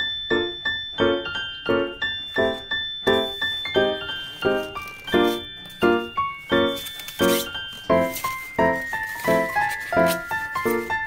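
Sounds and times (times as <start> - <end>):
bright tune of evenly spaced notes: 0.0 - 11.0.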